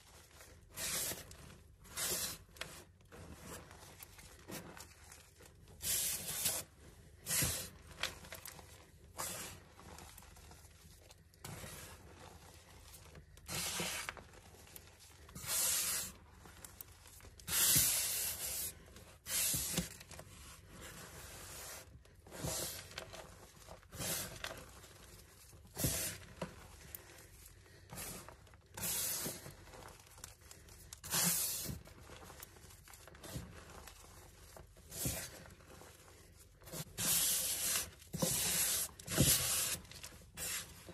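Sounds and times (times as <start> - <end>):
hands crunching powdery chalk: 0.0 - 40.9.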